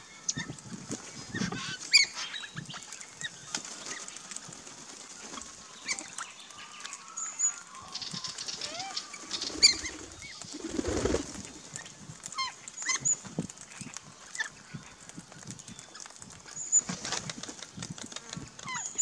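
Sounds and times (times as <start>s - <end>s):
birds chirping and squawking: 0.2s - 17.2s, 18.3s - 19.0s
wings flapping: 0.6s - 7.0s, 7.8s - 18.8s.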